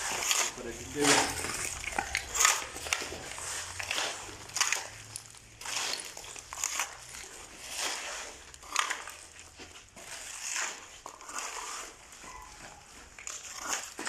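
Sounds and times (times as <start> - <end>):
shovels scraping on concrete: 0.0 - 14.0.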